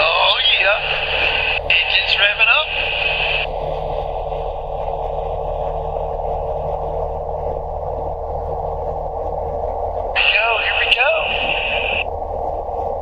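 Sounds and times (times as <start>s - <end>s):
aircraft engine through headset: 0.0s - 13.0s.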